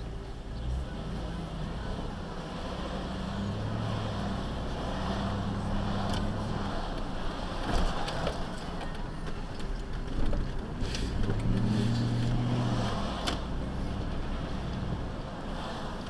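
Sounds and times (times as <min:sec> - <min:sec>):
road and engine noise in cab: 0:00.0 - 0:16.0.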